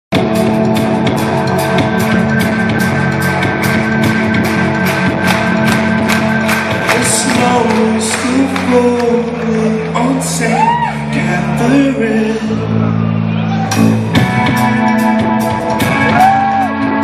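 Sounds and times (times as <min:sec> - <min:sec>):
rock band playing live: 0:00.1 - 0:17.0.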